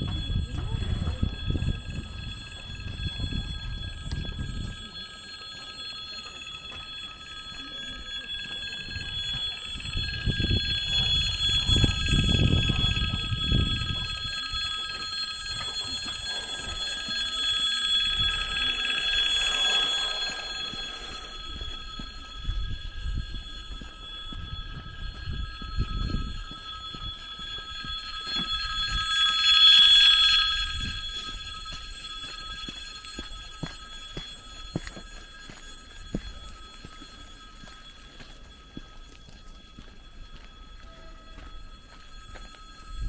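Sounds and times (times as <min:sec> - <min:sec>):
crossing signal high ringing: 0:00.0 - 0:43.0.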